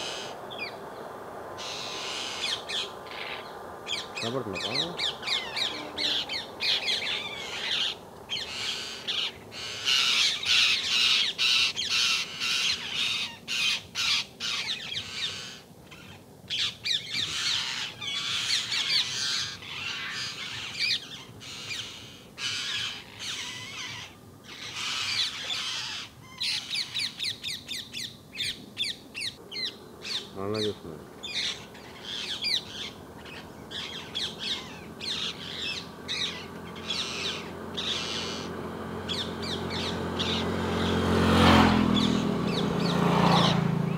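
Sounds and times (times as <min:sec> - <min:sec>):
parakeets calling shrilly: 0:00.0 - 0:43.9.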